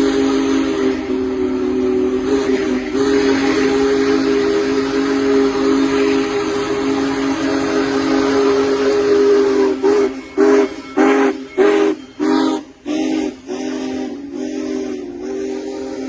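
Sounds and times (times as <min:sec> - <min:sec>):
steam hissing: 0:00.0 - 0:16.0
steam locomotive whistle: 0:00.0 - 0:16.0.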